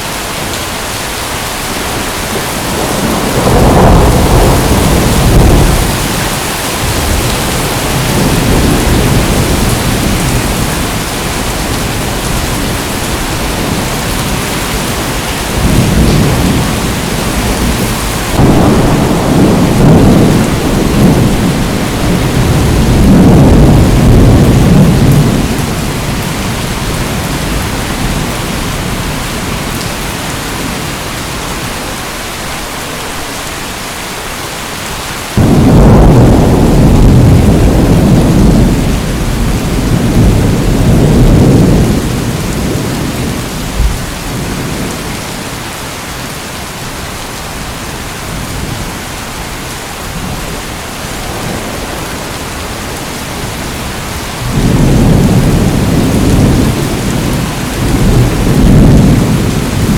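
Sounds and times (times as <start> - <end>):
heavy rain: 0.0 - 59.9
thunder rumbling: 0.1 - 31.0, 35.4 - 45.6, 50.0 - 59.9.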